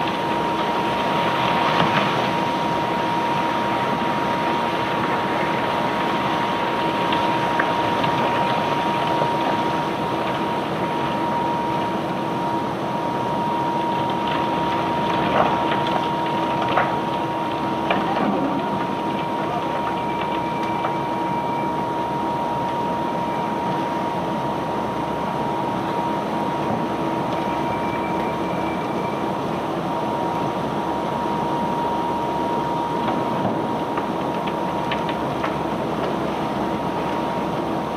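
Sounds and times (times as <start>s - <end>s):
machinery whine: 0.0s - 37.9s.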